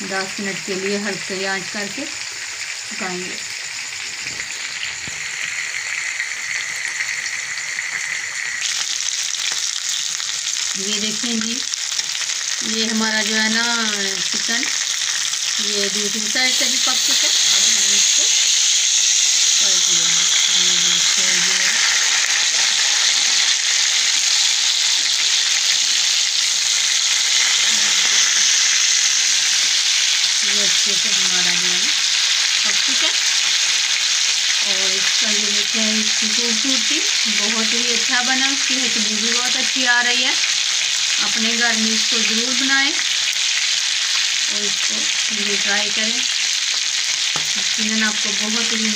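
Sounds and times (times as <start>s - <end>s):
chicken sizzling in a pan: 0.0s - 48.9s.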